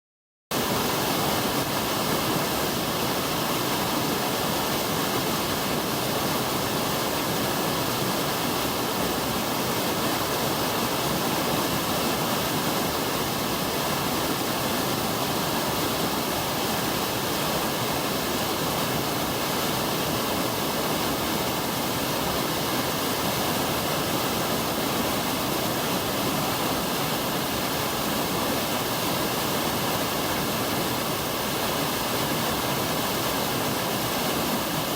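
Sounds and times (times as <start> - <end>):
waterfall rushing: 0.6 - 34.9.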